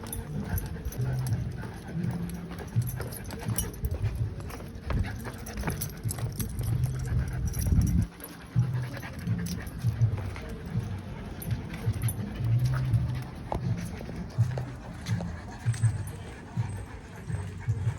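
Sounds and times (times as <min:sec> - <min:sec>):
footsteps: 0:00.0 - 0:17.9
puppy panting: 0:00.0 - 0:17.9.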